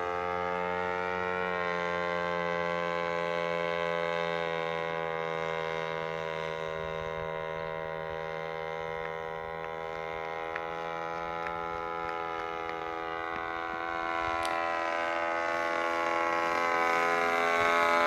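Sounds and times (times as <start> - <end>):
two-stroke engine droning: 0.0 - 18.0.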